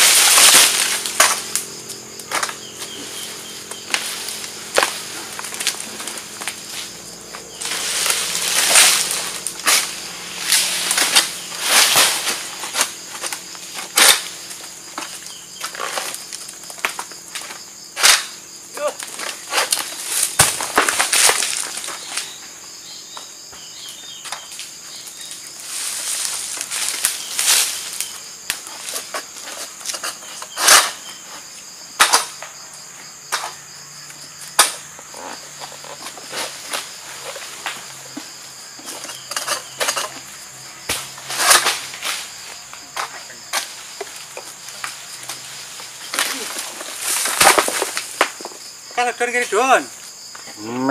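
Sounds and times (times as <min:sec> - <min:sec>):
sickle cracking palm stalks: 0:00.0 - 0:22.4, 0:23.2 - 0:31.1, 0:33.3 - 0:48.7
rustling of fronds: 0:00.0 - 0:31.8, 0:35.0 - 0:50.3
insects chirring: 0:00.0 - 0:50.9.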